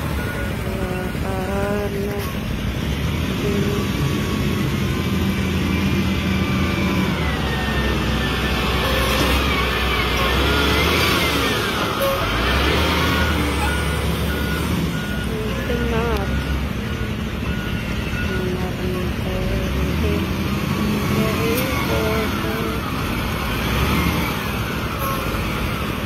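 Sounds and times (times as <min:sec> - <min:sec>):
wheel loader diesel engine rumble: 0:00.0 - 0:26.0.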